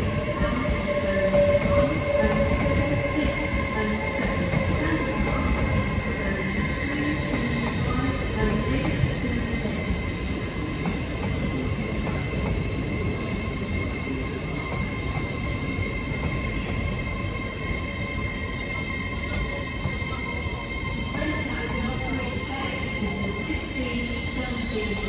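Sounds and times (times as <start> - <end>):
train high whine: 0.0 - 25.0
train wheels rumbling on rails: 0.0 - 25.0.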